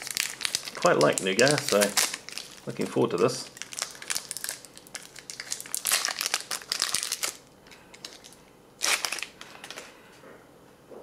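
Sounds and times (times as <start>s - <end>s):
foil wrapper crinkling: 0.0s - 9.9s.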